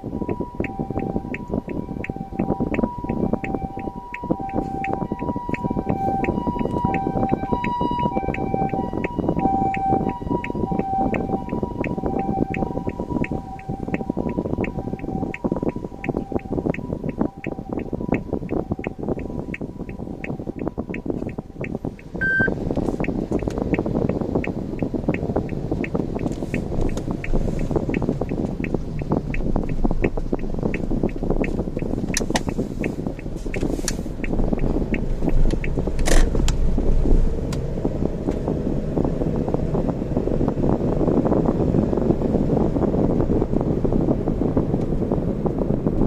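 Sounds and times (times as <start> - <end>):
car road and engine noise: 0.0 - 46.0
light even ticking: 0.1 - 40.0
sharp clicks: 0.3 - 37.7.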